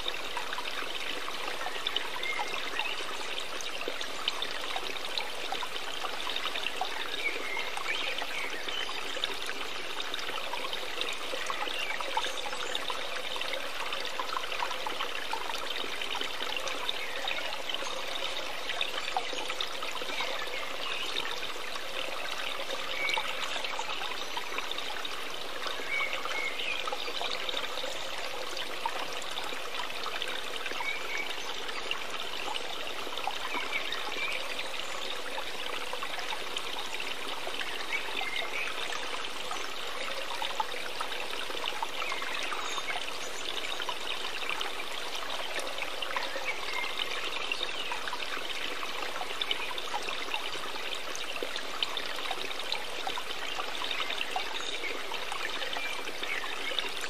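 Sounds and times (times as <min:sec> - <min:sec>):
water trickling and gurgling: 0:00.0 - 0:57.0.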